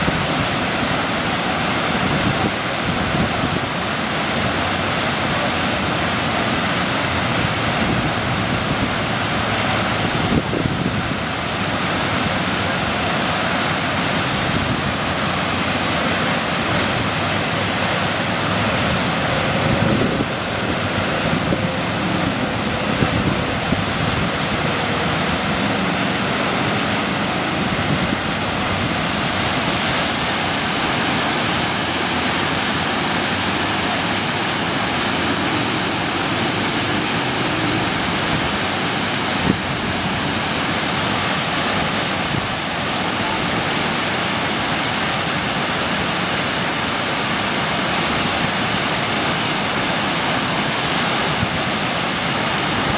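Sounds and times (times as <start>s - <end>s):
whitewater rushing: 0.0s - 52.9s.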